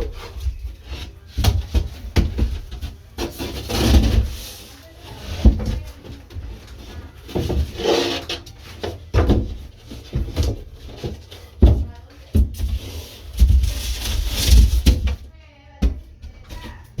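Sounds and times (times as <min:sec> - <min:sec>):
wooden board knocking and scraping: 0:00.0 - 0:15.2.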